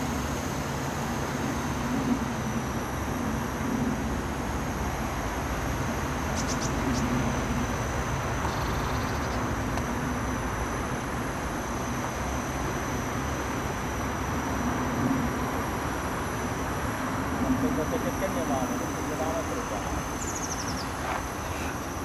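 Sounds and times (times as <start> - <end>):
high motor whine: 0.0 - 22.0
model helicopter rotor hum: 0.0 - 22.0.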